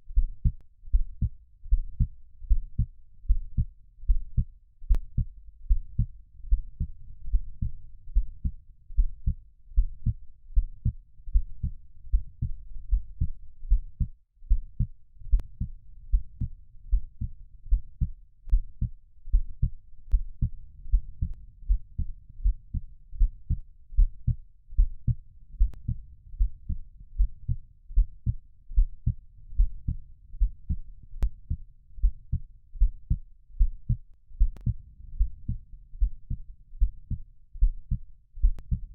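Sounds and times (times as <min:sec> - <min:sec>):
low rumble: 0:00.0 - 0:38.9
heartbeat thumps: 0:00.1 - 0:38.9.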